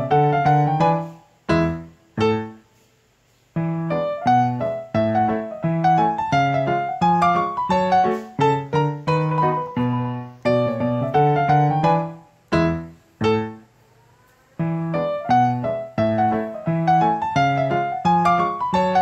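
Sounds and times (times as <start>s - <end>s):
piano melody: 0.0s - 2.7s, 3.5s - 13.8s, 14.5s - 19.0s.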